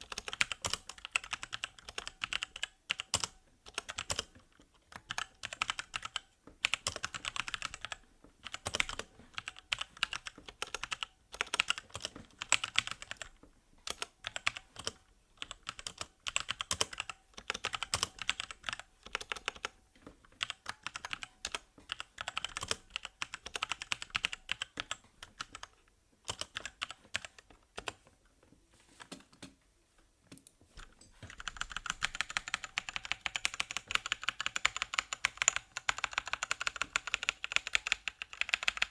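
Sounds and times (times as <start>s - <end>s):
typing on mechanical keyboard: 0.0s - 28.1s, 30.4s - 38.9s.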